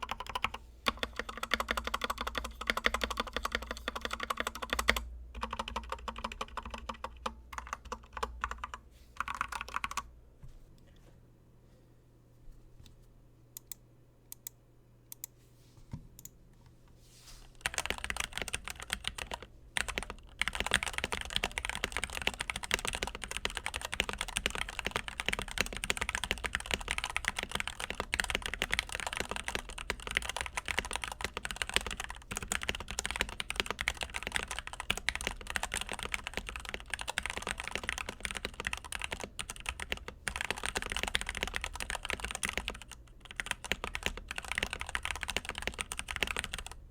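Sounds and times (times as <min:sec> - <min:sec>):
mechanical keyboard typing: 0:00.0 - 0:10.1, 0:17.6 - 0:46.8.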